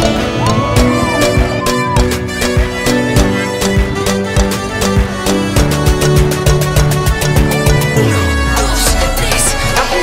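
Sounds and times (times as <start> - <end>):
music with fast beat: 0.0 - 10.0.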